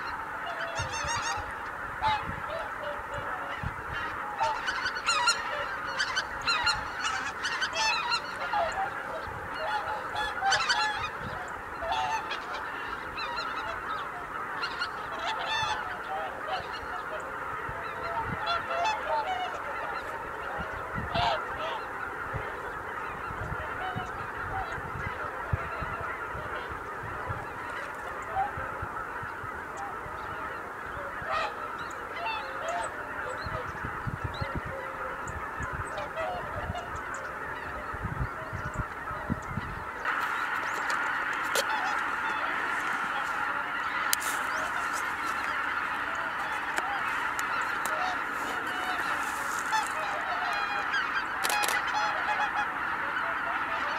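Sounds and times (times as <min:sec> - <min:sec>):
geese honking in flight: 0:00.0 - 0:53.9.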